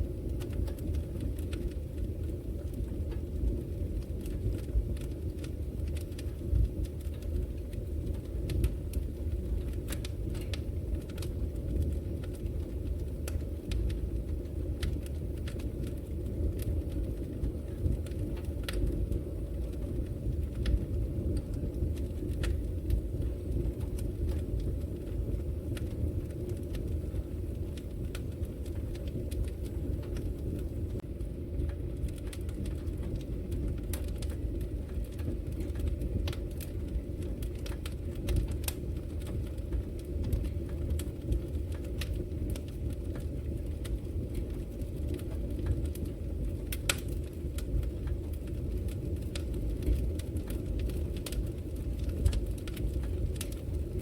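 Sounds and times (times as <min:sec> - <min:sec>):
fireplace fire crackling and popping: 0:00.0 - 0:54.0
low rumble of flame: 0:00.0 - 0:54.0.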